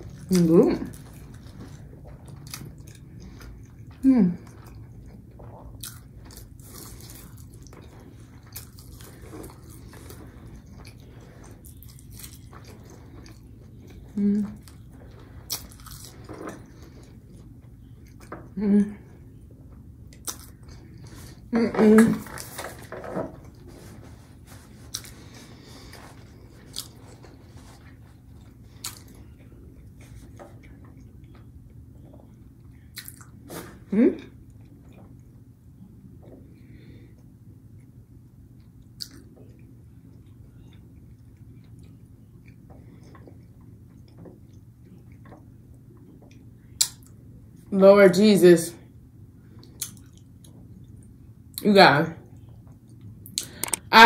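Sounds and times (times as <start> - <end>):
person chewing crunchy food: 0.0 - 18.6, 19.3 - 21.5, 22.1 - 36.4, 37.2 - 47.4, 49.4 - 51.3.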